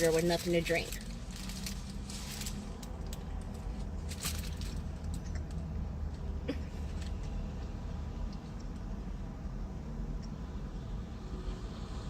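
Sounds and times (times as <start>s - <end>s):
low hum in car cabin: 0.0s - 12.0s.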